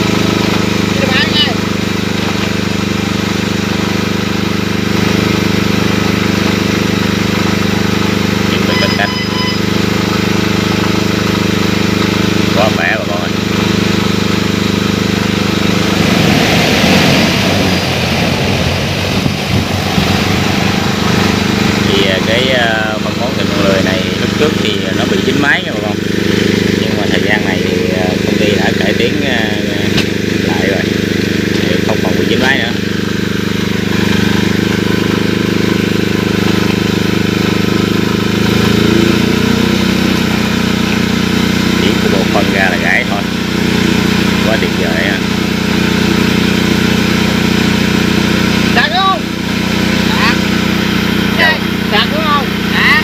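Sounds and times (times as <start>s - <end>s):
drone propellers whirring: 0.0s - 53.0s.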